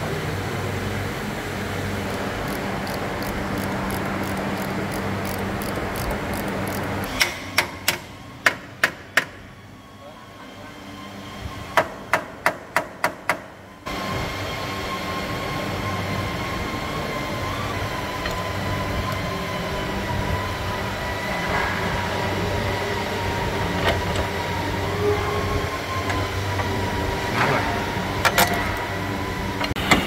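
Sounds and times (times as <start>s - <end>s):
mechanical hum with faint whine: 0.0s - 30.0s.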